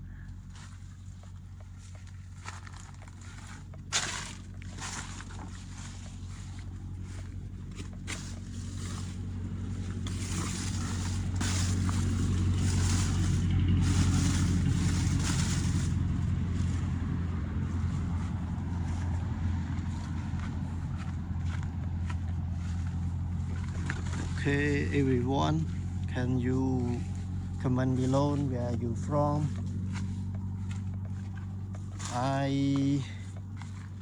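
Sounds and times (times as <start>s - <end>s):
engine running: 0.0s - 34.0s
crackling and rustling: 0.5s - 26.2s, 26.8s - 34.0s.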